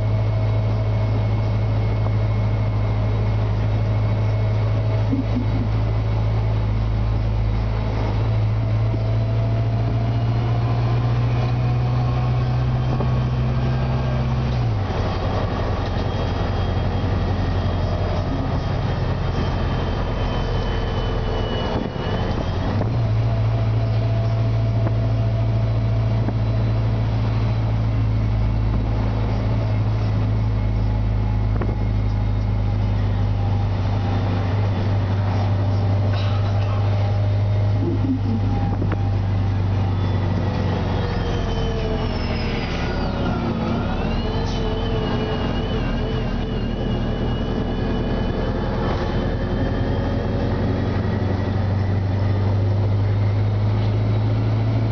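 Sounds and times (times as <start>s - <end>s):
bus engine drone: 0.0s - 54.9s
road and cabin noise: 0.0s - 54.9s.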